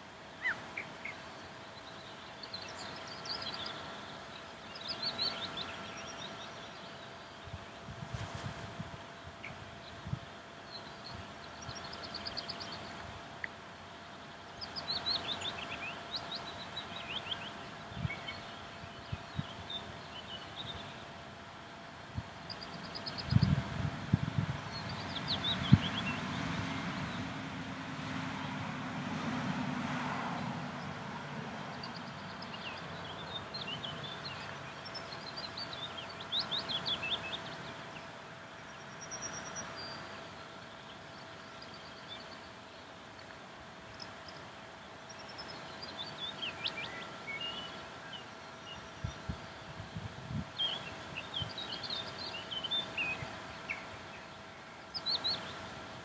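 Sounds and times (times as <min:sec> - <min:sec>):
small birds chirping: 0:00.0 - 0:28.8, 0:30.3 - 0:56.0
faint steady hum: 0:00.0 - 0:56.0.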